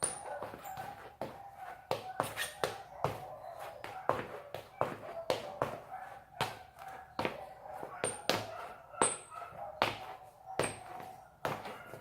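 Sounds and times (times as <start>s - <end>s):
sneaker squeaks: 0.0s - 12.0s.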